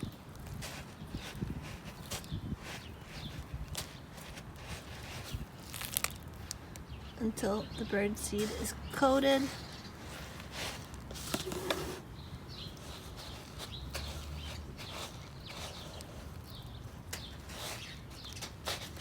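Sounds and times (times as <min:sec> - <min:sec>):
bird seed rustling: 0:00.0 - 0:06.9, 0:08.3 - 0:19.0.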